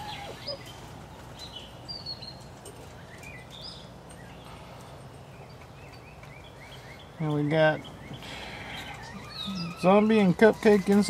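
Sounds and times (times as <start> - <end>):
birds chirping: 0.0 - 11.0
low background noise: 0.0 - 11.0.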